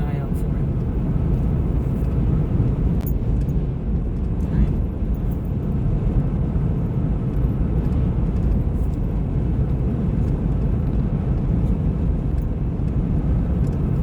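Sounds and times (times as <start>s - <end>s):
road noise inside vehicle: 0.0s - 14.0s.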